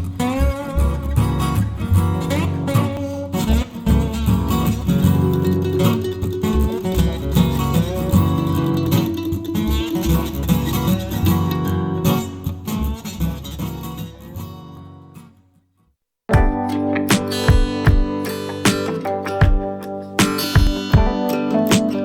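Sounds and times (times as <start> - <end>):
plucked guitar: 0.0 - 15.3, 16.3 - 22.0.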